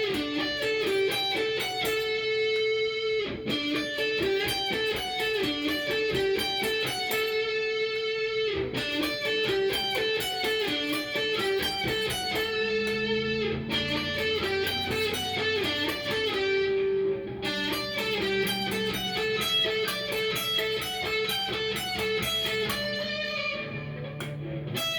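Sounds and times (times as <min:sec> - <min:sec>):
electric guitar notes: 0:00.0 - 0:24.9.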